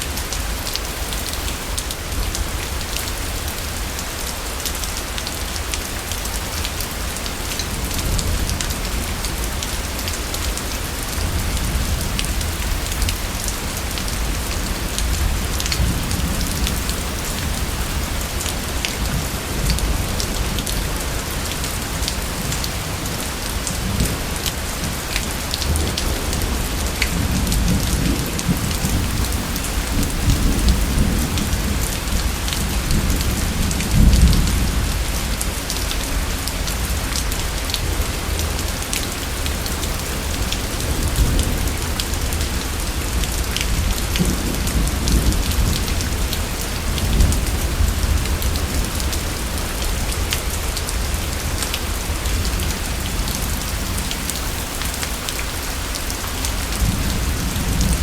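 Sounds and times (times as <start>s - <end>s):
heavy rain falling: 0.0s - 58.0s
thunder rumbling: 7.7s - 55.2s.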